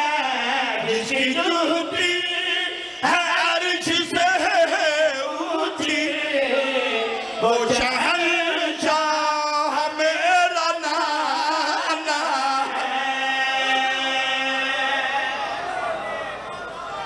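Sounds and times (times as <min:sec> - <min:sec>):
men chanting: 0:00.0 - 0:16.1.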